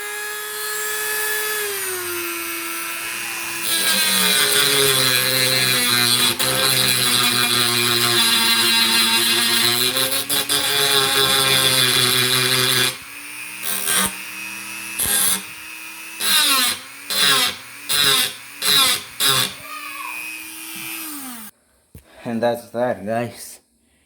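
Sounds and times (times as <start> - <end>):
power tool grinding: 0.0 - 21.5.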